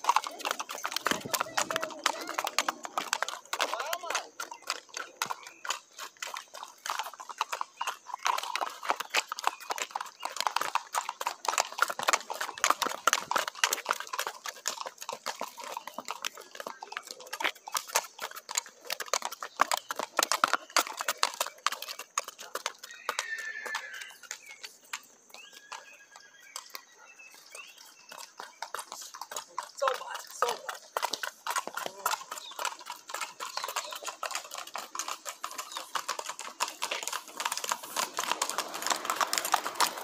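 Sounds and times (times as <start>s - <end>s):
horse hooves on asphalt: 0.0s - 40.0s.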